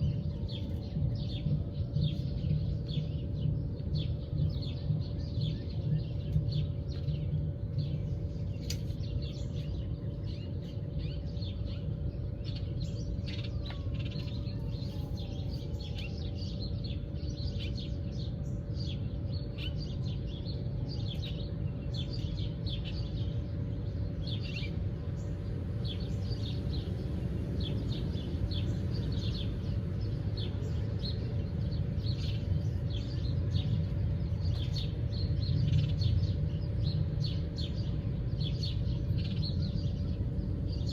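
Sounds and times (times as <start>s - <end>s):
faint hum: 0.0s - 40.9s
low rumble: 0.0s - 40.9s
songbirds chirping: 0.0s - 40.9s.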